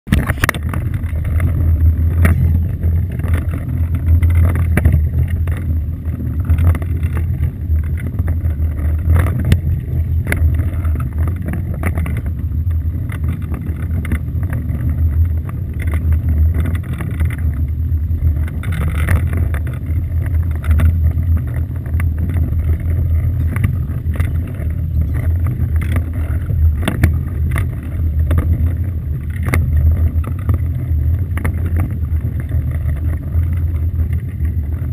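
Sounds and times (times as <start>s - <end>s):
boat low rumble: 0.0s - 34.9s.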